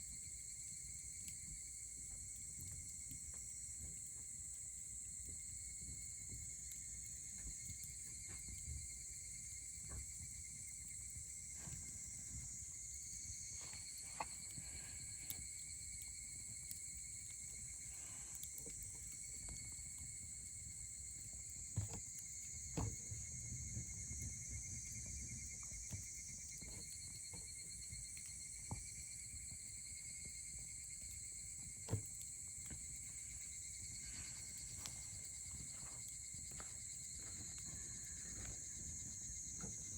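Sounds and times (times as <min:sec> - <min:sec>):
insects chirring: 0:00.0 - 0:39.9
campfire crackling: 0:00.7 - 0:39.9.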